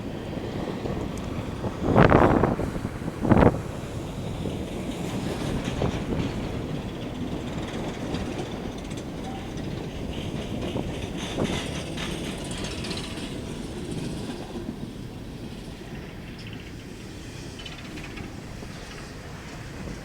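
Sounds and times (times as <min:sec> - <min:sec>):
train cars rolling on rails: 0:00.0 - 0:20.0
wheels clicking over rail joints: 0:00.0 - 0:20.0.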